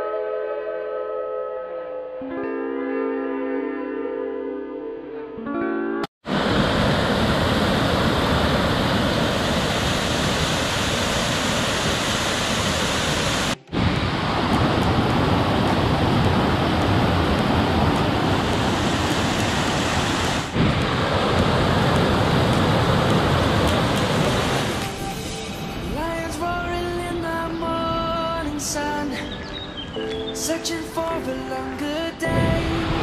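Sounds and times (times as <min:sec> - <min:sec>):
rushing waterfall: 0:06.3 - 0:33.0.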